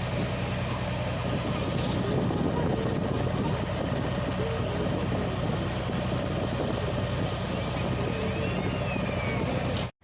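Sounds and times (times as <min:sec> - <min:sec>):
boat engine running: 0:00.0 - 0:09.9
wind noise: 0:00.0 - 0:09.9.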